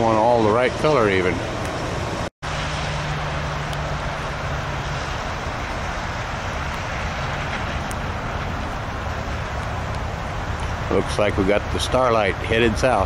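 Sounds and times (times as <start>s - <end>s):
low hum: 0.0s - 12.4s
distant traffic on wet road: 0.0s - 13.0s.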